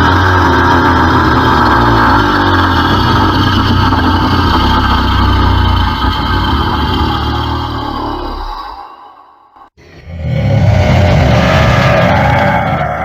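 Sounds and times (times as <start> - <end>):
deep monster growl: 0.0 - 13.0.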